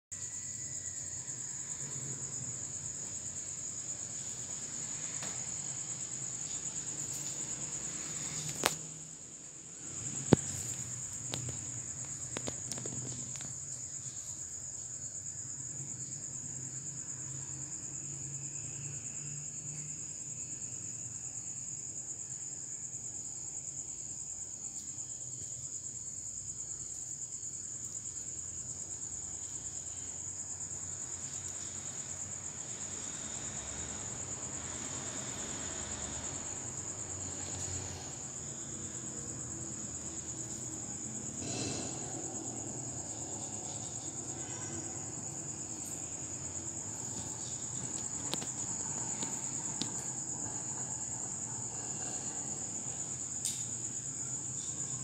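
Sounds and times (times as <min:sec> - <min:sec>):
crickets trilling: 0:00.2 - 0:55.0.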